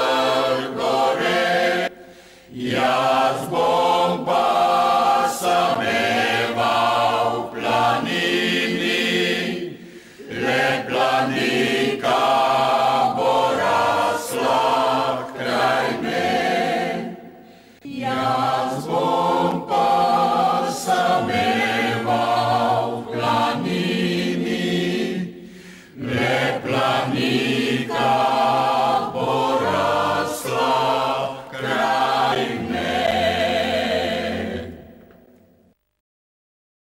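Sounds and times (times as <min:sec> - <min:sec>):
mixed choir singing: 0:00.0 - 0:35.1.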